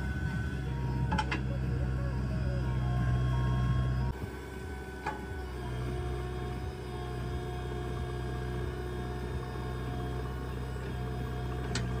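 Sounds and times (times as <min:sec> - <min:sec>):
diesel engine running under load: 0:00.0 - 0:12.0
steady whine: 0:00.0 - 0:12.0.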